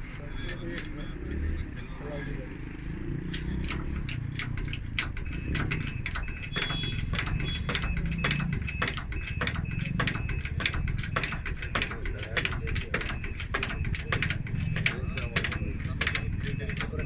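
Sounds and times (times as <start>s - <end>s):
tools clicking on wheel: 0.0s - 17.0s.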